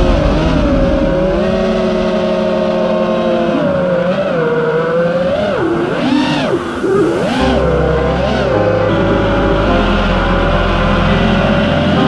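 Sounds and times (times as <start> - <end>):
drone motors whining: 0.0 - 12.0
lower steady hum: 0.0 - 12.0.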